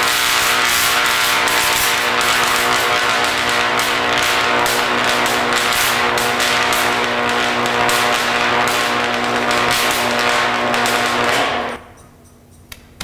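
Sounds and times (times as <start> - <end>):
electric arc buzzing and crackling: 0.0 - 11.9.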